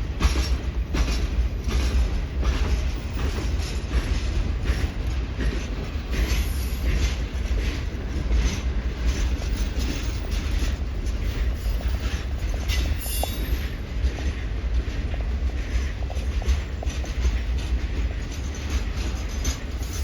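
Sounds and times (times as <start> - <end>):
heavy low train rumble: 0.0 - 20.0
train wheels clicking over rail joints: 0.0 - 20.0.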